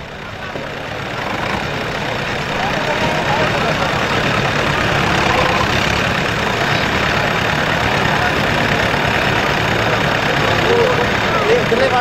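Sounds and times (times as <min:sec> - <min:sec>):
diesel tractor engines idling: 0:00.0 - 0:12.0.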